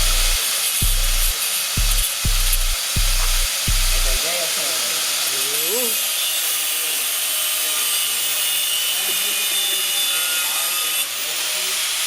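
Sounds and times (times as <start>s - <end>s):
high-pitched hiss of metal cutting: 0.0s - 12.0s.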